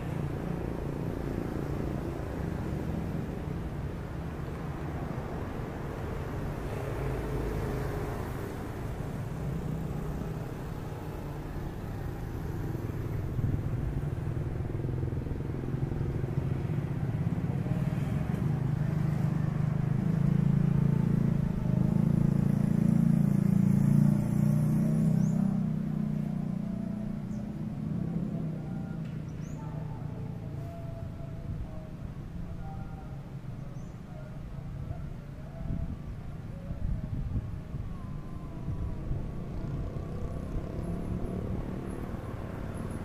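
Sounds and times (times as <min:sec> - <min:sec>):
engine low rumble: 0:00.0 - 0:43.0.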